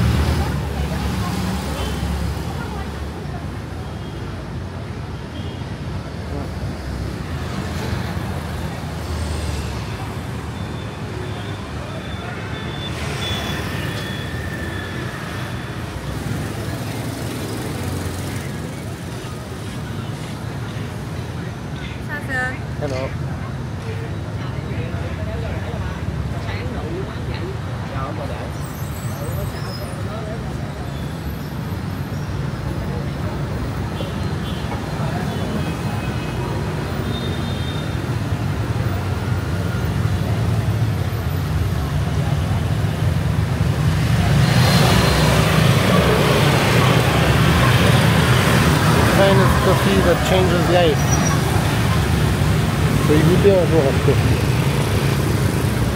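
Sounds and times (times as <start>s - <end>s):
busy street traffic: 0.0s - 55.9s.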